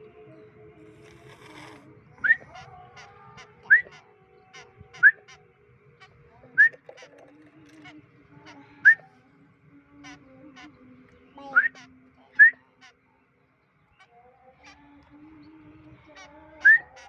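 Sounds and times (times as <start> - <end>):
bird chirps: 0.2 - 9.2, 10.0 - 17.0.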